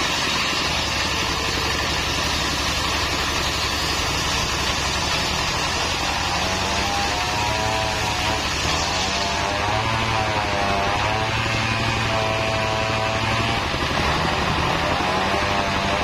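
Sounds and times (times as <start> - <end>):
circular saw cutting wood: 0.0 - 16.0
diesel engine running under load: 0.0 - 16.0.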